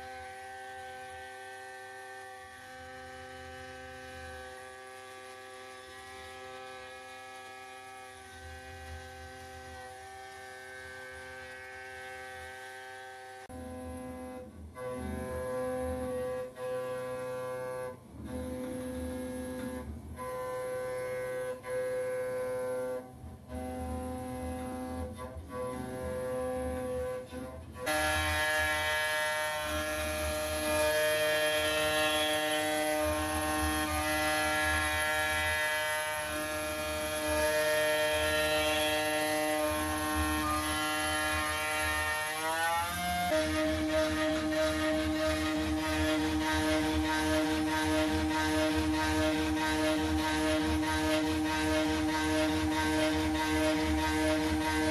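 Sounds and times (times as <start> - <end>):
cnc router cutting metal whine: 0.0 - 54.9.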